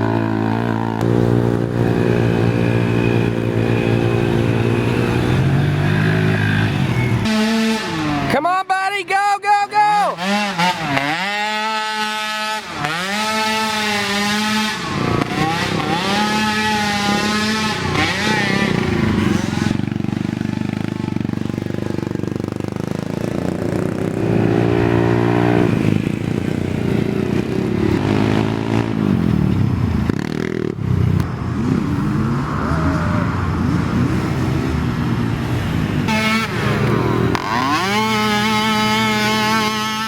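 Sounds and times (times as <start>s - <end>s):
small atv engines revving: 0.0s - 8.4s, 9.8s - 40.0s.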